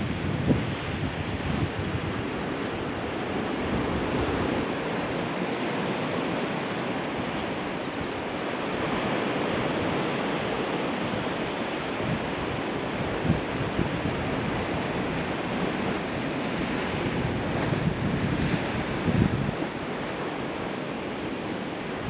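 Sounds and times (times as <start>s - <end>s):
wind buffeting microphone: 0.0s - 20.8s
sea waves rushing: 0.0s - 22.0s.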